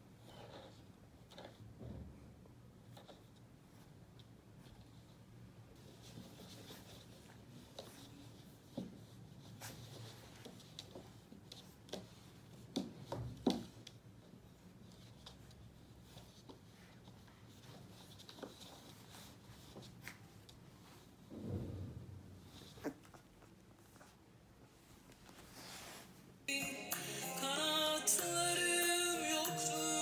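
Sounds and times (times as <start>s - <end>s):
faint scratching and rustling: 0.0s - 26.4s.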